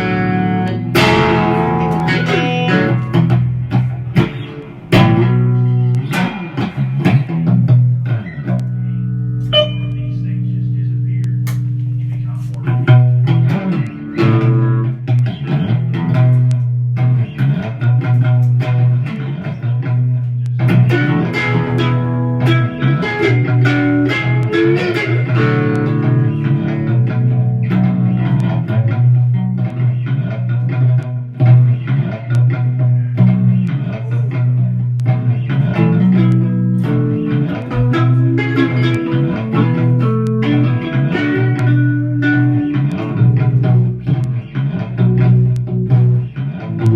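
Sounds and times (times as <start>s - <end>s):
guitar playing blues riff: 0.0s - 46.9s.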